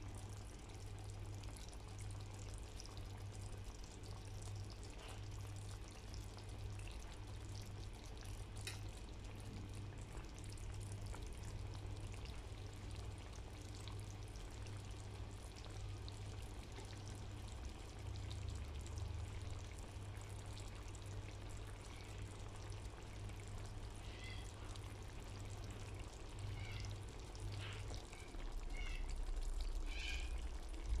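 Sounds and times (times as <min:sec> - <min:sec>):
low steady hum: 0:00.0 - 0:31.0
sauce simmering and bubbling: 0:00.0 - 0:31.0.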